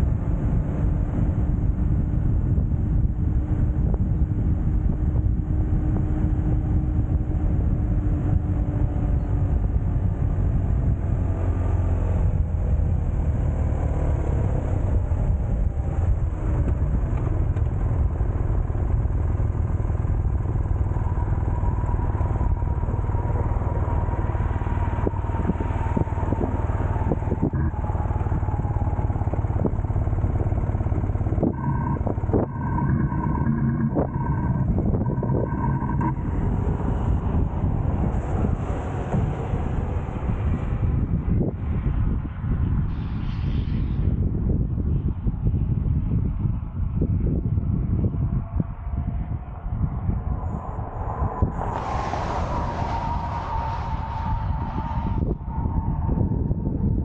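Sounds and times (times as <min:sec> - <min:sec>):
vehicle engine running: 0:00.0 - 0:43.2, 0:47.0 - 0:57.0
road and wind rumble: 0:00.0 - 0:57.0.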